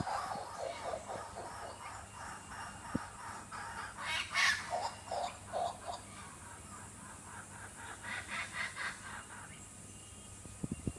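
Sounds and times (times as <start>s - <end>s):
kookaburras laughing: 0.0s - 9.5s.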